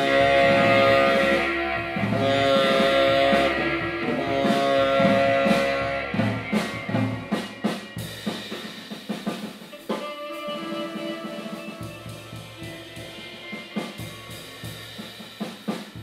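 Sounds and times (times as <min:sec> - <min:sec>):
tenor saxophone: 0:00.0 - 0:08.6, 0:09.6 - 0:15.4
drum and cymbal hits: 0:00.0 - 0:16.0.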